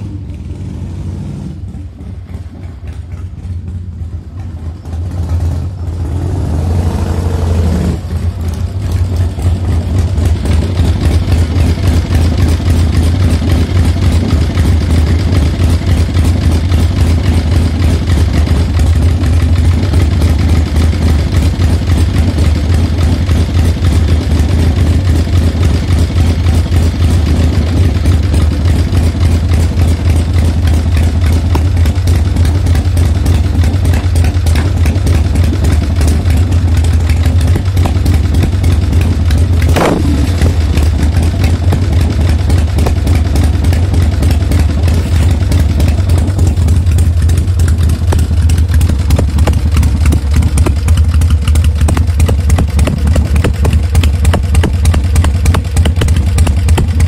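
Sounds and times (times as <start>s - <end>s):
motorcycle engine idling: 0.0s - 6.5s, 7.2s - 57.0s.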